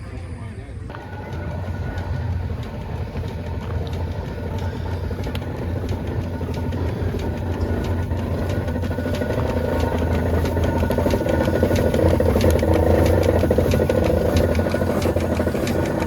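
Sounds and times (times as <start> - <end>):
old gas engines chugging: 0.0 - 16.0
engine sharp pops: 0.9 - 16.0.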